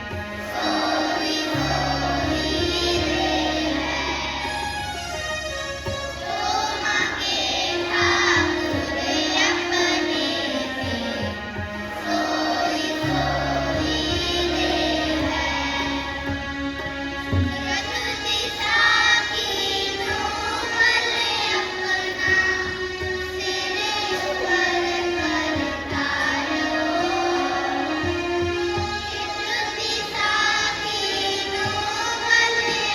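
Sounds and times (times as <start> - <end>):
children singing: 0.0 - 4.9, 6.2 - 32.9
instrumental accompaniment: 0.0 - 32.9.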